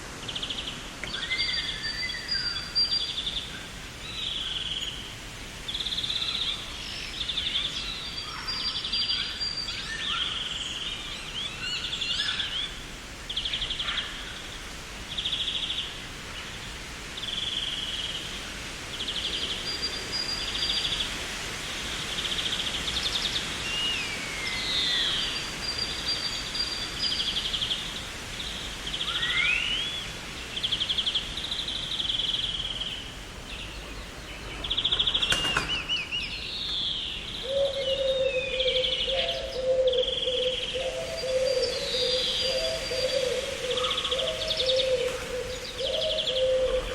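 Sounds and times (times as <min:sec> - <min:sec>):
steady hiss: 0:00.0 - 0:46.9.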